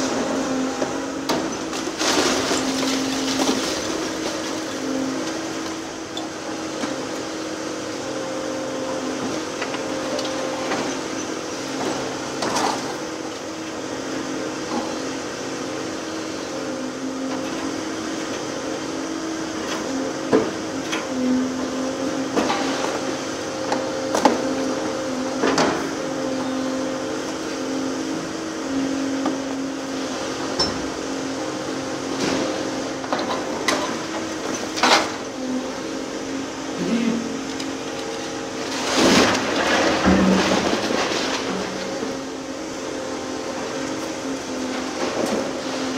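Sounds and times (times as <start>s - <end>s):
excavator hydraulic hum: 0.0s - 45.9s.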